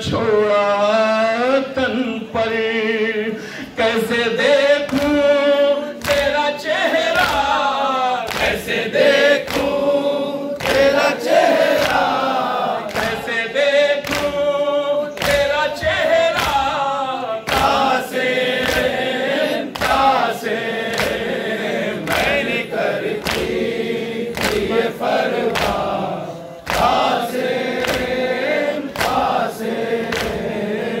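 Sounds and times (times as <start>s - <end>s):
men singing a lament: 0.0s - 31.0s
rhythmic chest-beating strikes: 4.6s - 31.0s.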